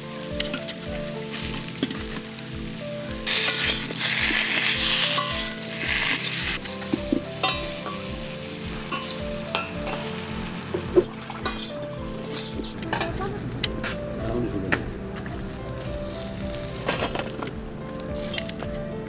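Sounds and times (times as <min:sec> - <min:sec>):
potatoes frying in oil: 0:00.0 - 0:17.5.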